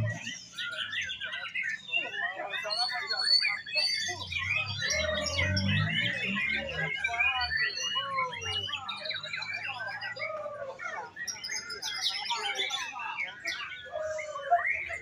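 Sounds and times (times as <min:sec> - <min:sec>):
many songbirds singing: 0:00.0 - 0:15.0.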